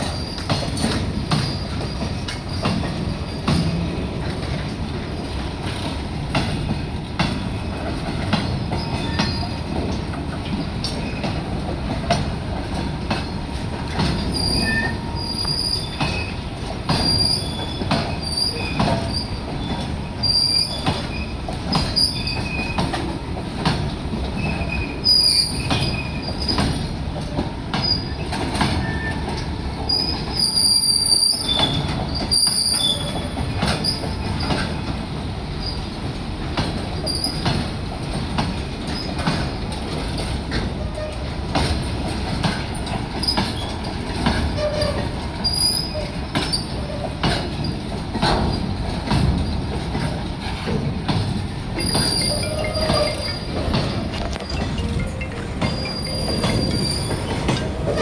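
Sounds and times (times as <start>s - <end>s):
train wheels squealing: 0.0s - 4.6s, 8.3s - 9.8s, 10.8s - 11.4s, 13.1s - 34.9s, 37.0s - 37.8s, 38.9s - 50.8s, 51.8s - 58.0s
clanks from rail joints: 0.0s - 58.0s.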